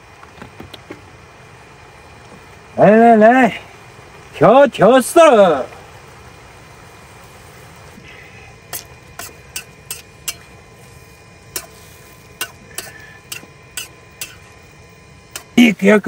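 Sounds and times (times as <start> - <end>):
low steady cooking hiss: 0.0 - 16.0.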